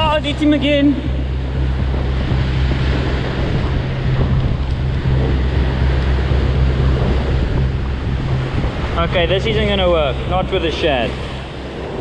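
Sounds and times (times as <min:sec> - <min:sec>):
surf breaking on rocks: 0:00.0 - 0:12.0
wind rumbling on microphone: 0:00.0 - 0:12.0.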